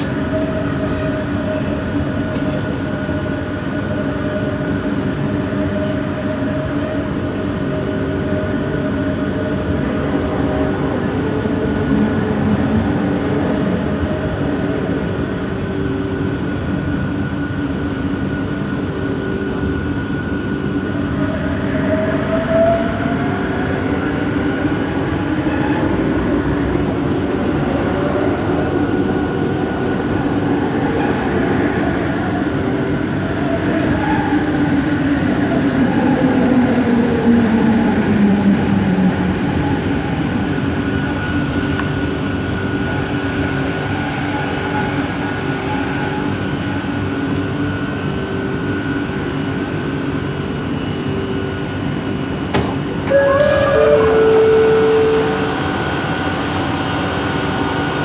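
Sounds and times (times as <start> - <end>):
metro car running noise: 0.0 - 58.0.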